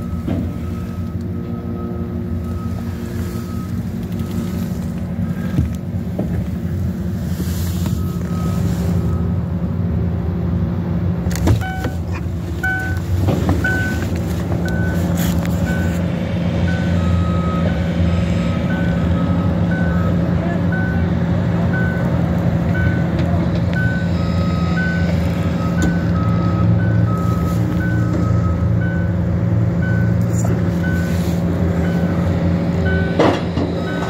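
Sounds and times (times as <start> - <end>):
truck reversing alarm beeping: 0.0 - 10.0, 11.3 - 34.0
idling engines rumbling: 0.0 - 34.0.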